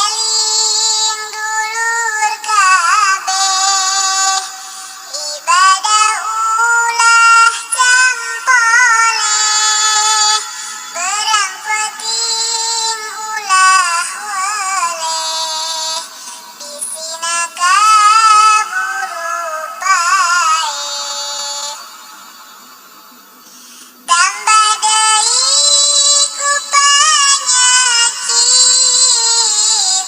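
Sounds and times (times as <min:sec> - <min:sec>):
high-pitched voice chanting: 0:00.0 - 0:22.2, 0:23.5 - 0:30.0.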